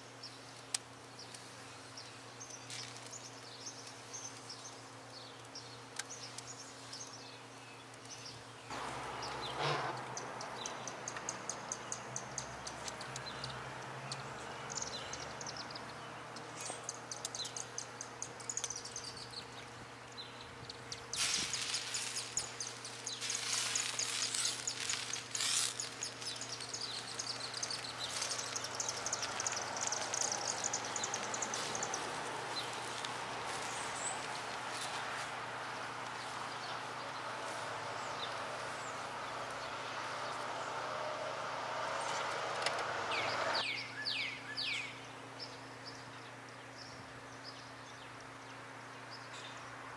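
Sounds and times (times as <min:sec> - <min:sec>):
bird chirping: 0:01.2 - 0:49.7.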